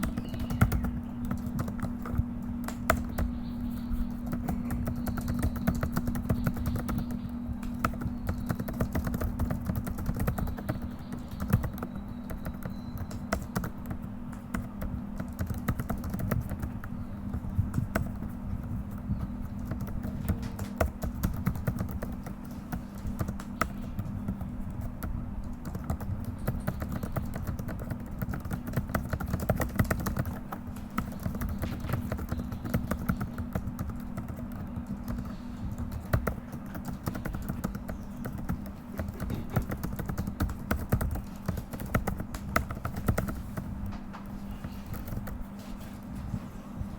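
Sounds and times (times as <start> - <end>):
fast keyboard typing: 0.0 - 45.6
steady low hum: 0.0 - 46.9.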